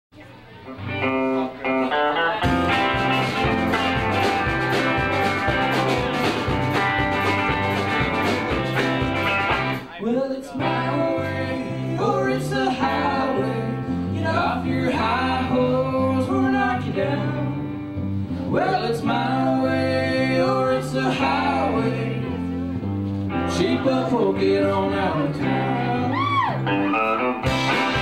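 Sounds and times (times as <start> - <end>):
band of guitarists playing: 0.7 - 9.9, 10.6 - 28.0.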